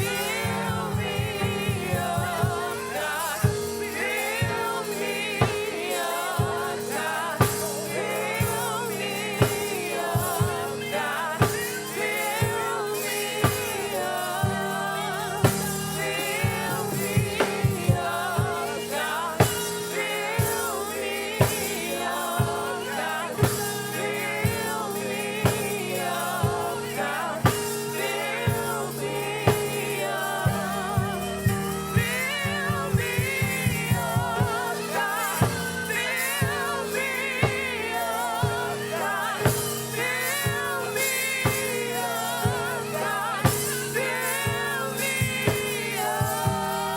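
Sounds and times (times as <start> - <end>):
band playing gospel music: 0.0 - 46.9
choir singing with vibrato: 0.0 - 46.9
drum kit beat: 0.0 - 46.9
held keyboard note: 0.0 - 46.9.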